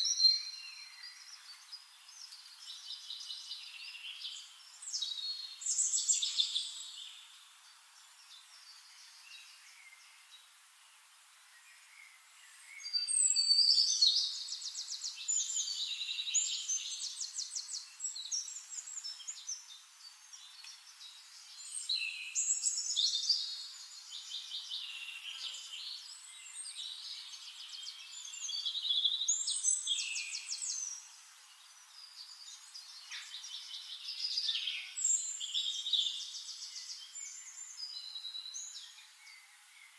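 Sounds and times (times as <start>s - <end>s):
songbird trilling and chirping: 0.0s - 10.3s, 11.7s - 39.9s.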